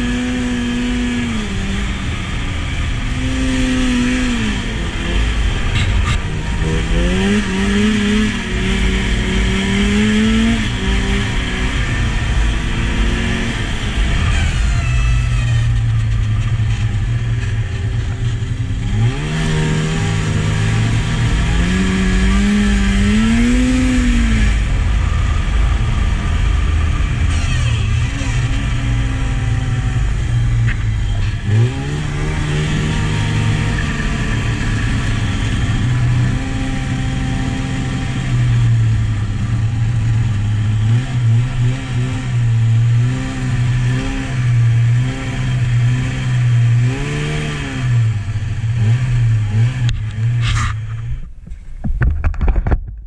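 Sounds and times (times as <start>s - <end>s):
snowmobile engine revving: 0.0s - 51.1s.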